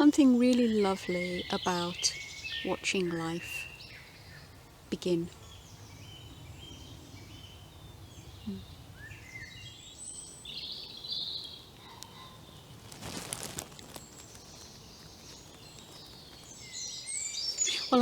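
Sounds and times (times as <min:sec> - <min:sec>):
birds chirping: 0:00.0 - 0:18.0
faint outdoor background: 0:00.0 - 0:18.0.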